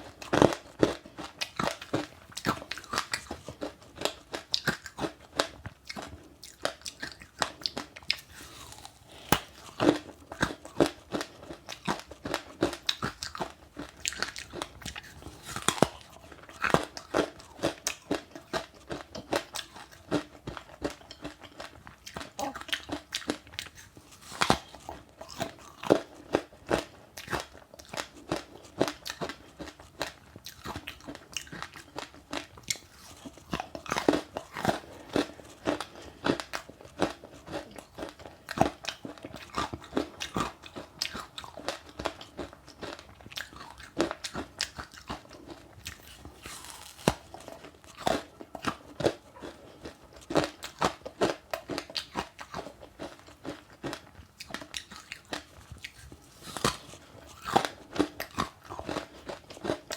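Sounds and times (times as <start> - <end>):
chewing crunchy seeds: 0.0 - 59.9.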